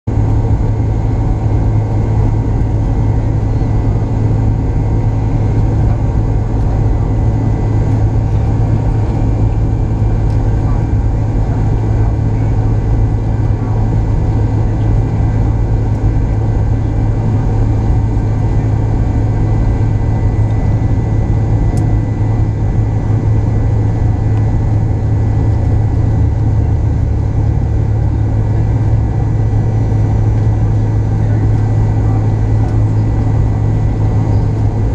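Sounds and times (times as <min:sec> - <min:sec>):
jet engines humming at low power: 0:00.1 - 0:34.9.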